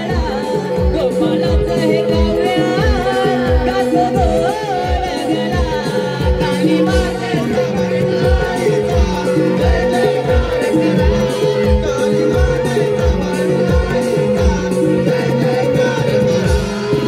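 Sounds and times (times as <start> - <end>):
drum beating: 0.0 - 17.0
man singing devotional folk song: 0.0 - 17.0.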